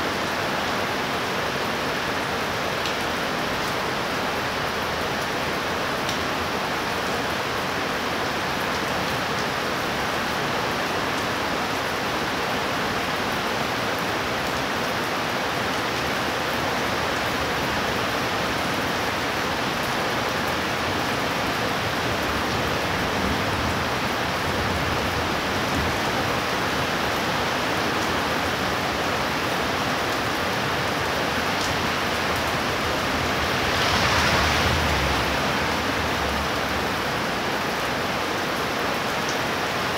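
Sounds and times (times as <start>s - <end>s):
rain pouring down: 0.0s - 39.9s.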